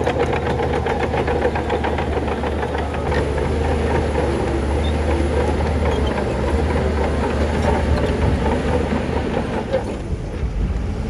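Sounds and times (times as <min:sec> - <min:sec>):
bulldozer diesel engine running: 0:00.0 - 0:11.0
steel tracks clanking: 0:00.0 - 0:11.0.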